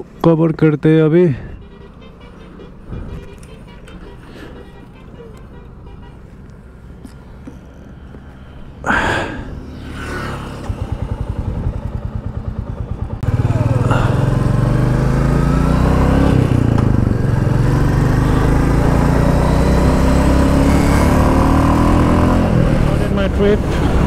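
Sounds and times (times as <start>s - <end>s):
motorcycle engine idling and accelerating: 1.0s - 24.0s.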